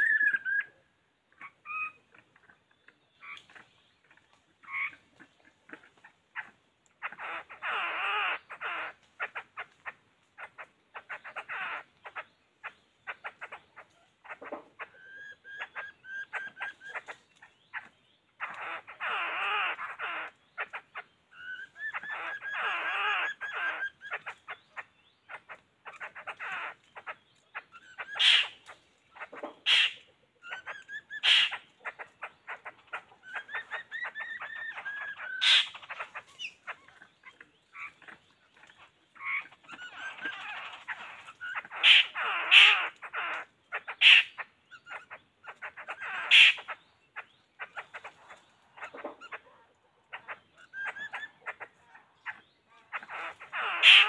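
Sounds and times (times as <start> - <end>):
birds chattering and whistling: 0.0 - 54.0.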